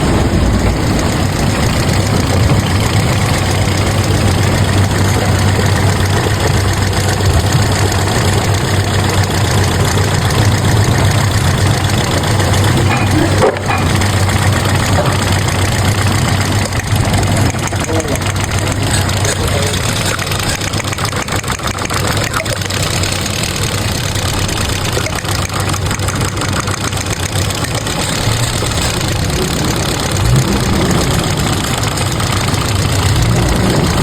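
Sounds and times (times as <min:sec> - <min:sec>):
car engine idling with misfire: 0:00.0 - 0:34.0.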